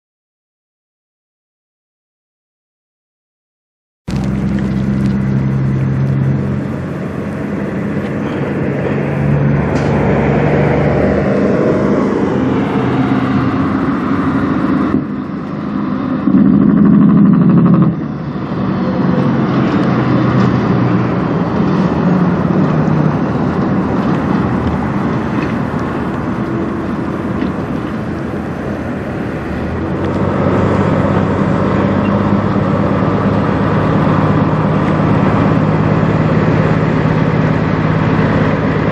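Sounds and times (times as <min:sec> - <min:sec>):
diesel truck engine shifting gears: 0:04.1 - 0:38.9.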